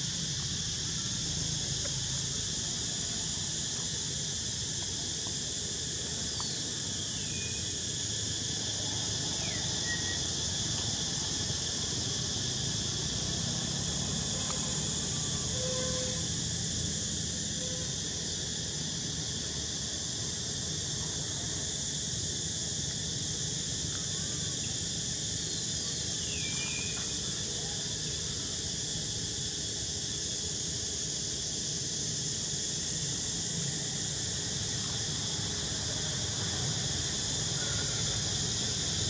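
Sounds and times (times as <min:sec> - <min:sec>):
insect chorus buzzing: 0:00.0 - 0:39.0.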